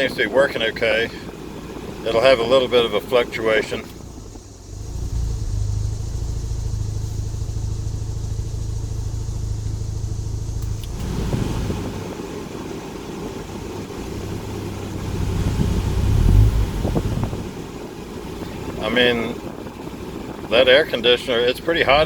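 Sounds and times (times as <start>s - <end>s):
road noise: 0.0s - 22.0s
rotary engine humming: 0.0s - 22.0s.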